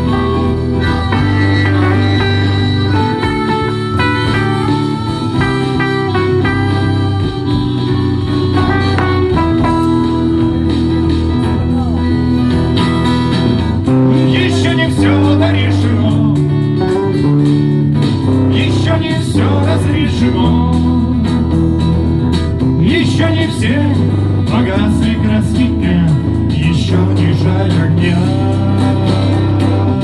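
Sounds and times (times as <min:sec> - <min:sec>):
guitars playing melody: 0:00.0 - 0:30.0
steady low bass line: 0:00.0 - 0:30.0.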